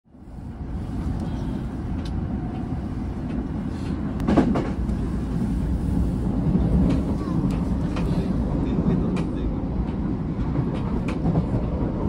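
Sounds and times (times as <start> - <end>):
train rumbling on rails: 0.1 - 12.0.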